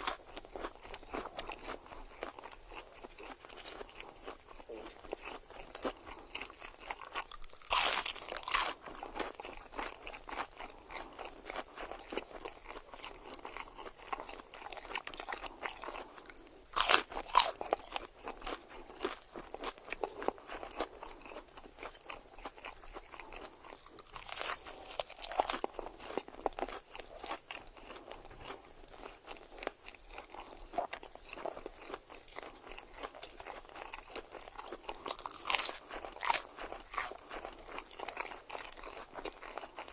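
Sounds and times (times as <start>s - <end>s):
chewing crunchy food: 0.0s - 39.9s
loud crunching bites: 0.0s - 39.9s.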